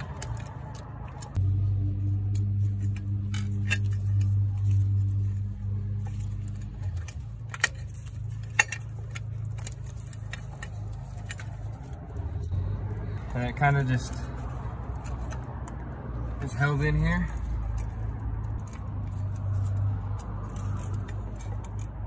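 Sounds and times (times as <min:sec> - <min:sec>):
metallic clicks and clinks: 0:00.0 - 0:22.0.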